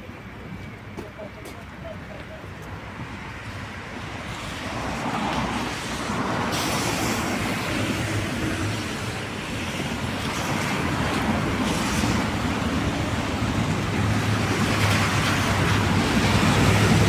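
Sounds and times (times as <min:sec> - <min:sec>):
tyres hissing on wet road: 0:03.1 - 0:17.0.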